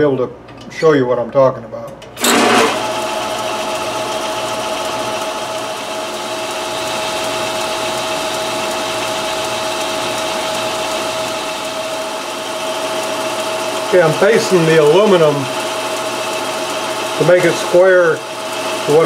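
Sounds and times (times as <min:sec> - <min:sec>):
metal lathe whining: 0:02.2 - 0:19.0.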